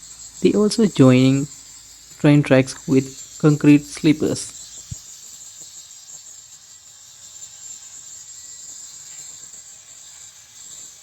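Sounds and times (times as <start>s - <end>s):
high-pitched insect chirring: 0.0s - 11.0s.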